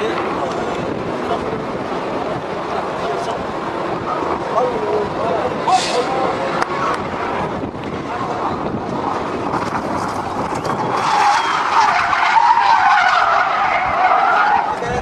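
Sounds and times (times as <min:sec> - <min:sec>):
car engine: 0:00.0 - 0:15.0
car tyres screeching: 0:00.0 - 0:15.0.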